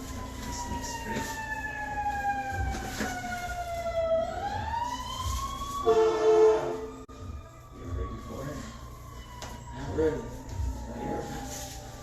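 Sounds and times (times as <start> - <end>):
siren wailing: 0.0 - 12.0
steady multi-pitch tone: 0.0 - 12.0.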